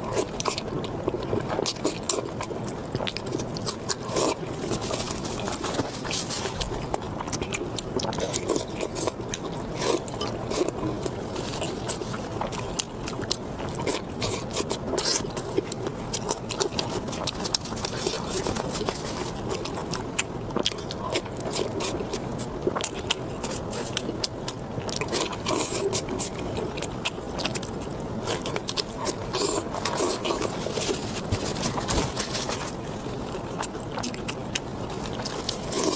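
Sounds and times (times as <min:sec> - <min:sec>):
person chewing food: 0:00.0 - 0:35.9.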